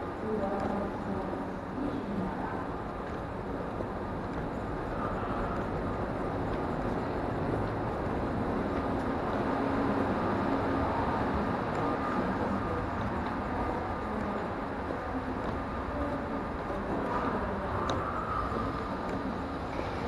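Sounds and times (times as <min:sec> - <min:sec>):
rumbling underpass background noise: 0:00.0 - 0:20.0.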